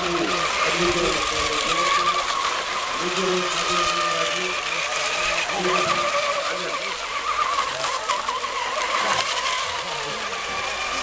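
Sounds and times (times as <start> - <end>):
model boat engines whining: 0.0 - 11.0.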